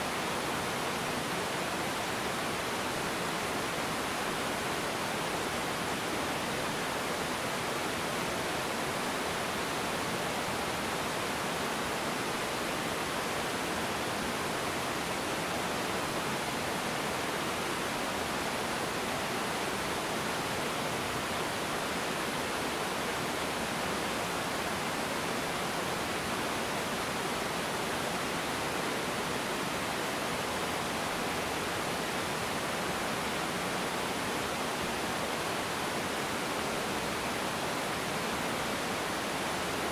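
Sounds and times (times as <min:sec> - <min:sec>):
waterfall over rocks: 0:00.0 - 0:39.9.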